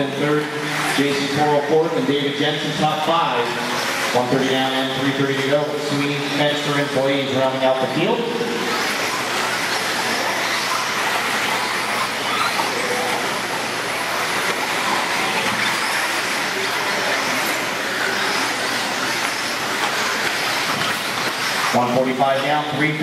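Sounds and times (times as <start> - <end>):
electric motor whine: 0.0 - 22.8
toy car tyre and chassis noise: 0.0 - 23.0.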